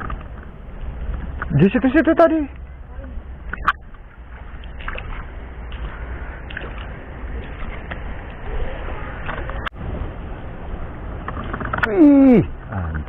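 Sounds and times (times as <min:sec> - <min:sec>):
river water running: 0:00.0 - 0:13.0
wind rumble on microphone: 0:02.5 - 0:13.0.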